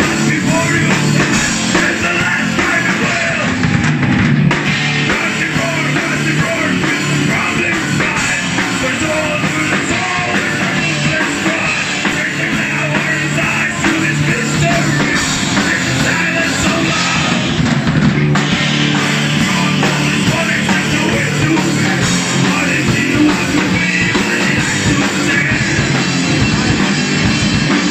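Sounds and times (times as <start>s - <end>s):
bass guitar: 0.0s - 27.9s
drum kit: 0.0s - 27.9s
electric guitars: 0.0s - 27.9s.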